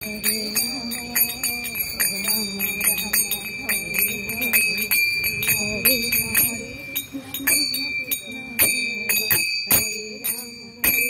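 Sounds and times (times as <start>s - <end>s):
hand cymbals clashing: 0.0s - 11.0s
woman singing a chant: 0.0s - 11.0s.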